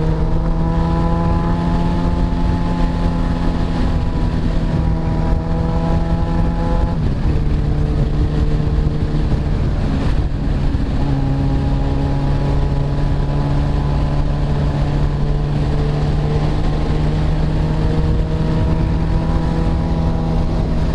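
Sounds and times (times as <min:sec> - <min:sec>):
motorcycle engine running: 0:00.0 - 0:20.9
wind noise: 0:00.0 - 0:20.9.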